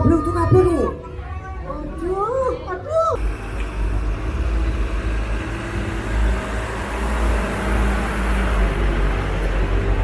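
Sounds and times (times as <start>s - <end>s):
large engine rumbling: 1.0s - 10.0s.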